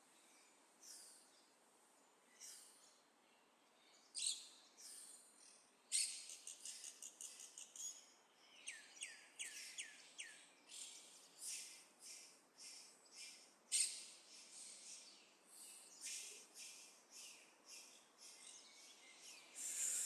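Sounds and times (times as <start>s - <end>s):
birds chirping: 2.2s - 20.0s.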